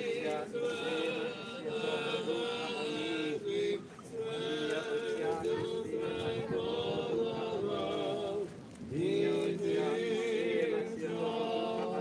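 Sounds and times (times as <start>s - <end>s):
man chanting a hymn: 0.0s - 12.0s.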